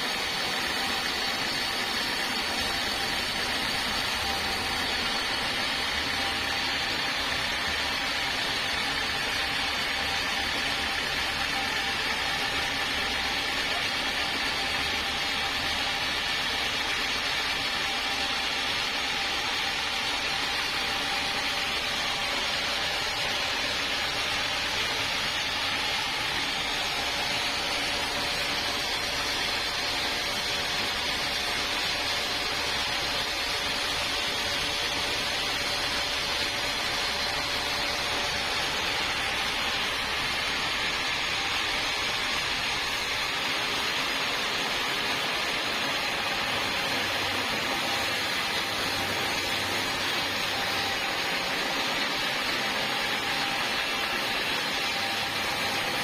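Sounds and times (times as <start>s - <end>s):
sawmill machinery hiss: 0.0s - 56.0s.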